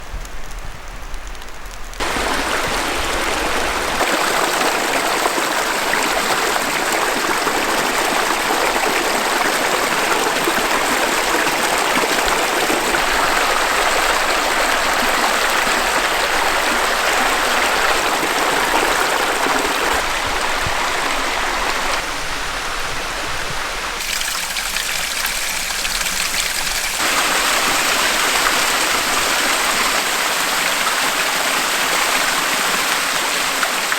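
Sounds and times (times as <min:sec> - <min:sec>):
water rushing at a waterfall: 0:02.0 - 0:33.9.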